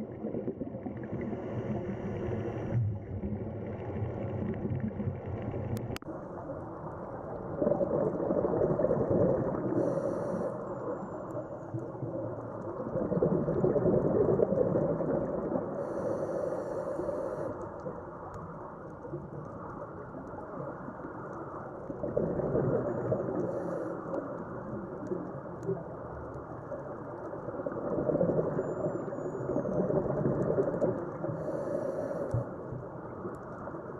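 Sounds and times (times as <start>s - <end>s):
muffled underwater water noise: 0.0s - 33.9s.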